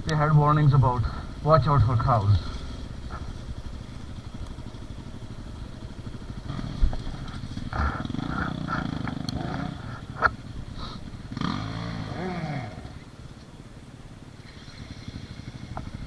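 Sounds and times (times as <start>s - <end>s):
dirt bike engine: 0.0s - 16.0s.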